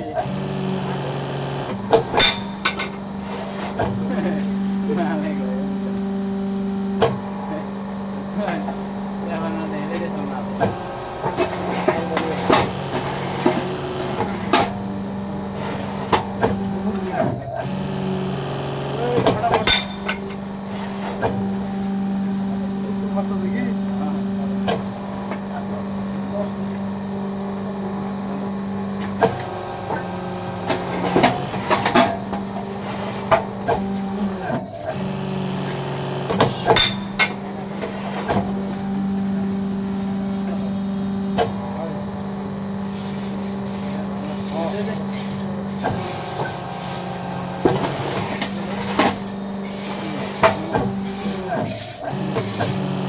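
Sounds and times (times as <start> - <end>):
electric motor humming: 0.0 - 53.0.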